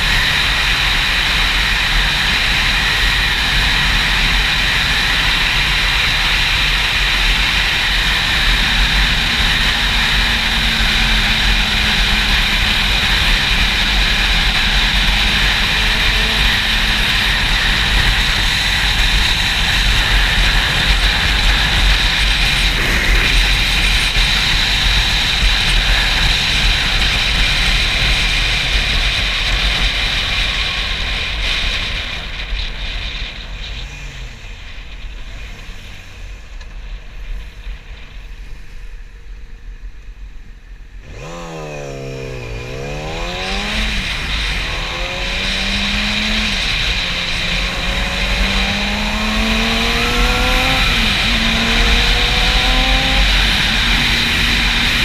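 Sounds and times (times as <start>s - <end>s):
wind noise on microphone: 0.0s - 33.9s, 41.0s - 55.0s
motorcycle engine revving: 0.0s - 39.8s, 40.5s - 55.0s.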